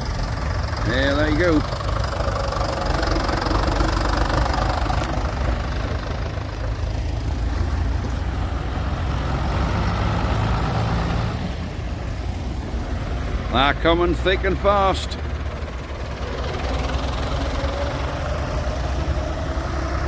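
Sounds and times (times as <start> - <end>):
tractor engines running: 0.0 - 20.0.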